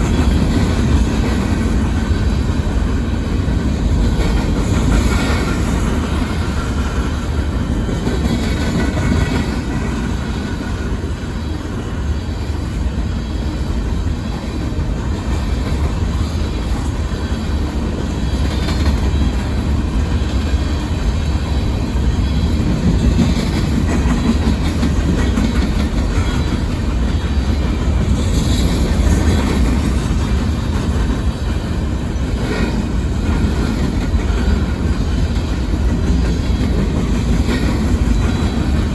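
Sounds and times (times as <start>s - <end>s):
train wheels rumbling on rail: 0.0s - 38.9s
wheels clacking over rail joints: 0.0s - 38.9s.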